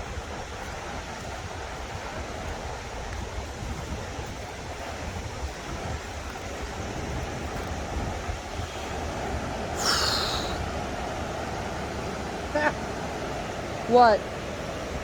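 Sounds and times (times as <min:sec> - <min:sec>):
rushing floodwater: 0:00.0 - 0:15.0
wind buffeting microphone: 0:00.0 - 0:15.0.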